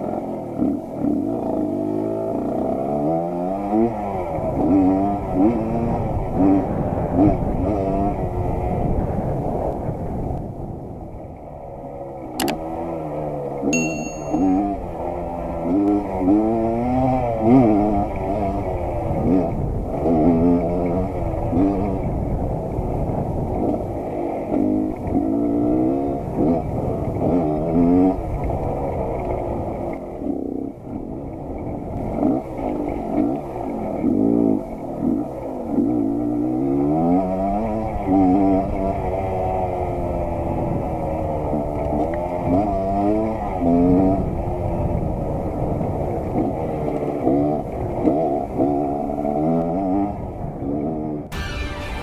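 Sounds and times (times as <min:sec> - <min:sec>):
motorcycle engine revving: 0:00.0 - 0:09.6, 0:11.7 - 0:52.0.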